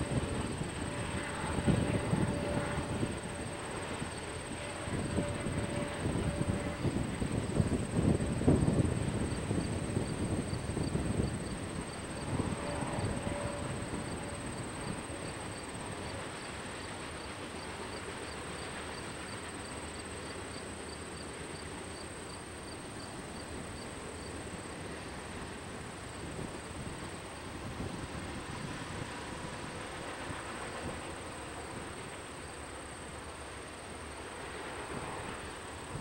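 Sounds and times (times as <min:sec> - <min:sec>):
distant freight train rumble: 0:00.0 - 0:36.0.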